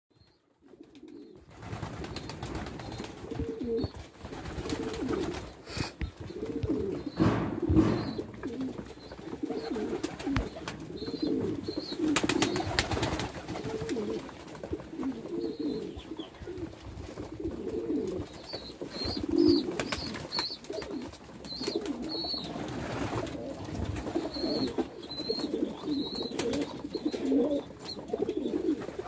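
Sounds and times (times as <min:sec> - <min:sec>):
pigeons cooing: 0:00.6 - 0:29.0.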